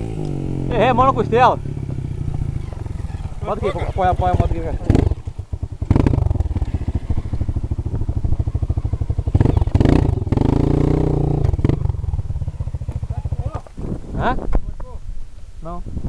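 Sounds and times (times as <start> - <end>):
motocross bike engine revving: 0.0 - 14.2.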